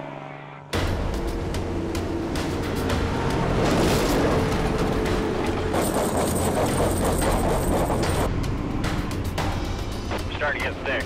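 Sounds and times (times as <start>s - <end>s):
road noise: 0.0s - 11.0s
truck engine rumbling: 0.7s - 11.0s.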